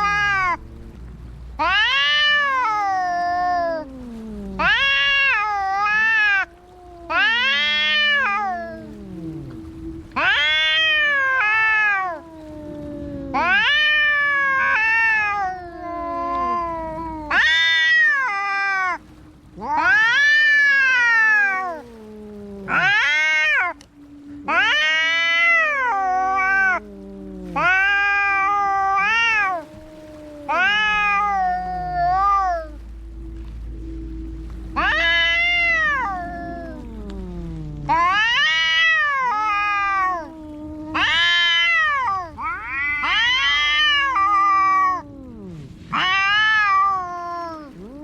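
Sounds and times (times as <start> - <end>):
cats yowling in a fight: 0.0 - 0.8, 1.6 - 19.0, 19.6 - 33.8, 34.7 - 48.0
low falling wail: 0.0 - 48.0.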